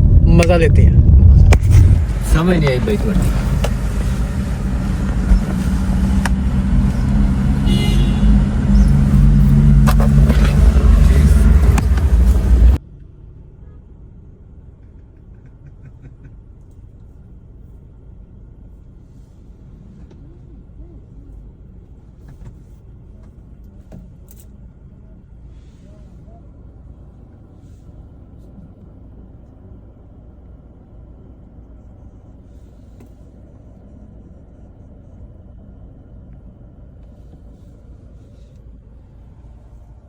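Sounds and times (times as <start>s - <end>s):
motor vehicle engine rumbling: 0.0s - 40.0s.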